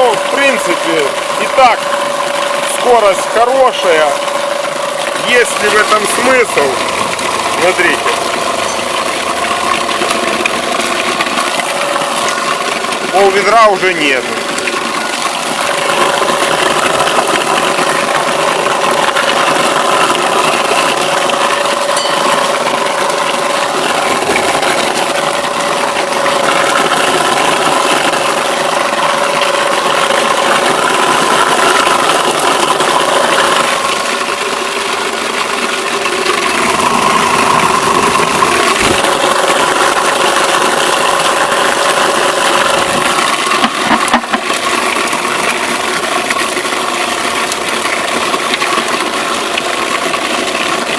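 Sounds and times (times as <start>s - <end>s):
apple crusher motor grinding: 0.0s - 50.9s.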